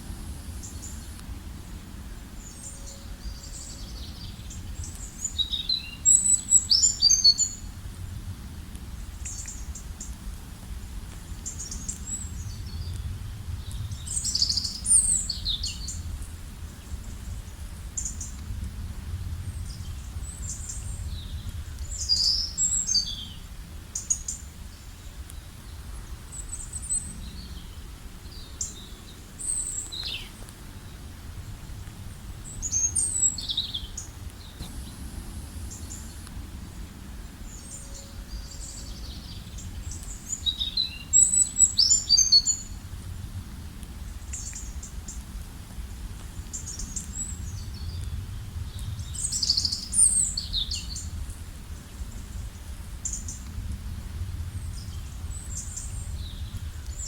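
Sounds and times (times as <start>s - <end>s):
songbirds chirping and trilling: 0.0s - 8.2s, 11.1s - 42.9s, 44.0s - 57.0s
steady low rumble: 7.5s - 23.9s, 24.5s - 41.8s, 42.6s - 57.0s.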